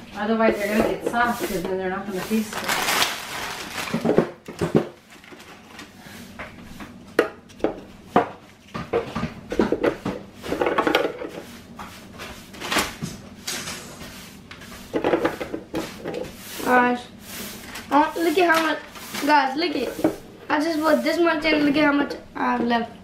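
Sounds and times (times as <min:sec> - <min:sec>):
rustling handling noise: 0:00.4 - 0:09.0, 0:10.5 - 0:22.0.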